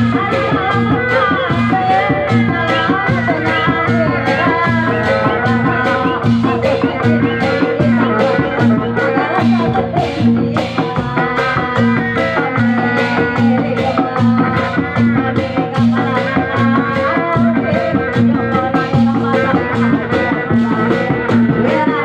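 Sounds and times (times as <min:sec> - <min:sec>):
driving percussion beat: 0:00.0 - 0:22.0
sustained melodic tones: 0:00.0 - 0:22.0.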